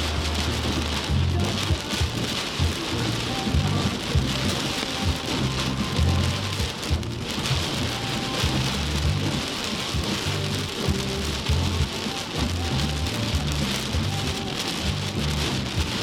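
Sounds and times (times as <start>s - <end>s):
heavy rain pouring: 0.0s - 16.0s
low rumbles and thumps: 0.0s - 16.0s.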